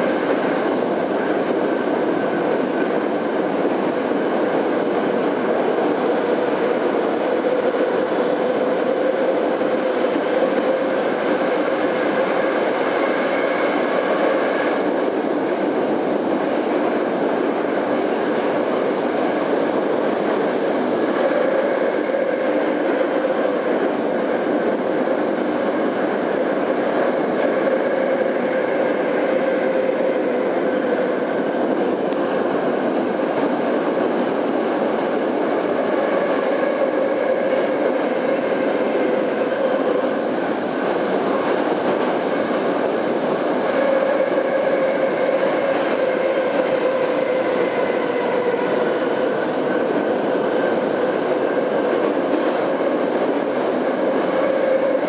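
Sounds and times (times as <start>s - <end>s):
metro train wheels rumbling: 0.0s - 55.0s.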